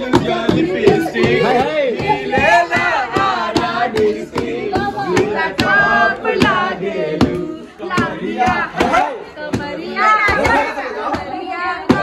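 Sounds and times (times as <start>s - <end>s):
hand claps: 0.0s - 6.6s, 7.2s - 11.3s
people singing together: 0.0s - 12.0s.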